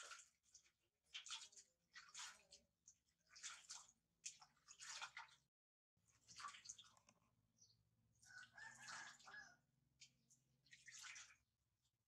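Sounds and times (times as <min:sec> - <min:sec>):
water splashing in metal basin: 0:00.0 - 0:05.5, 0:06.1 - 0:07.4, 0:08.1 - 0:12.0.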